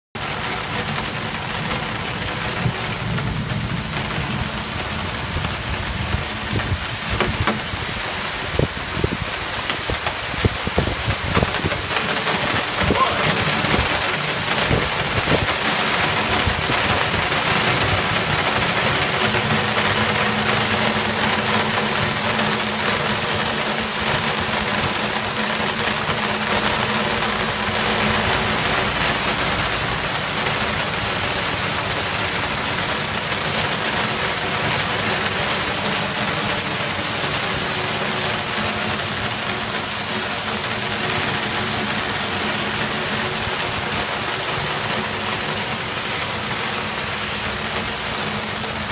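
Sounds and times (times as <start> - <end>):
hail hitting stone paving: 0.2 - 48.9.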